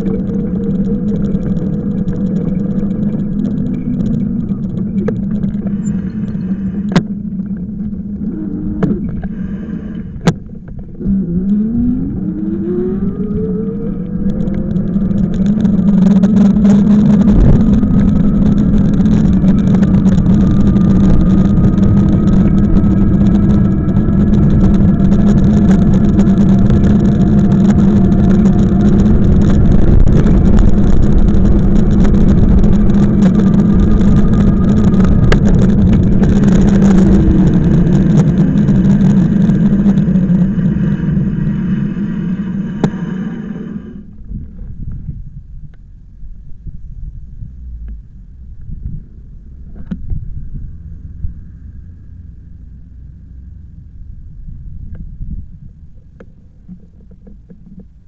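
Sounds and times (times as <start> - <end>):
road and wind noise: 0.0 - 58.0
vehicle engine accelerating: 0.0 - 58.0.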